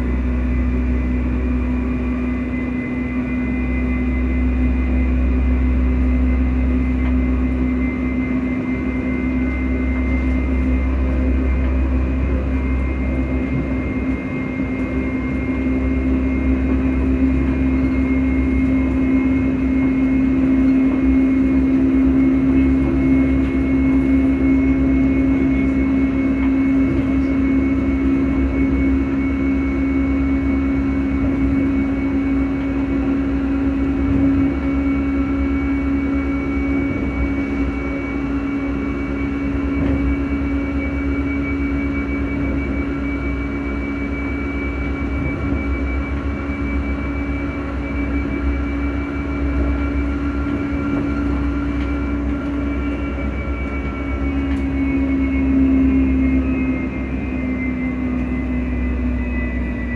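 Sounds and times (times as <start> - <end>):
cooling fans humming: 0.0 - 59.9
high whine: 0.0 - 59.9
wheels rumbling on track: 0.0 - 59.9.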